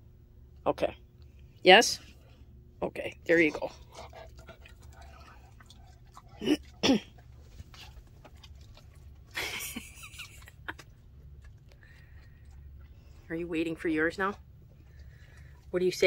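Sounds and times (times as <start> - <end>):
dog chewing treat: 3.1 - 16.0.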